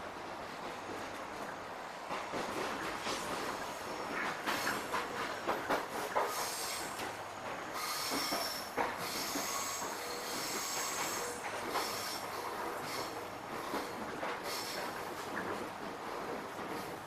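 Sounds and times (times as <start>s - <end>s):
electric train running on rails: 0.0s - 17.0s
wheels clicking over rail joints: 0.6s - 17.0s.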